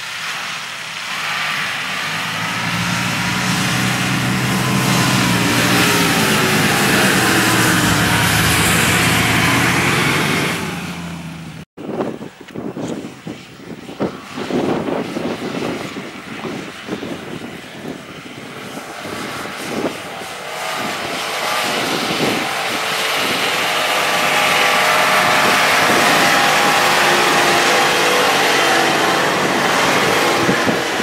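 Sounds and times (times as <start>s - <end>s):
off-road vehicle engine under load: 0.0s - 11.7s, 14.1s - 31.0s.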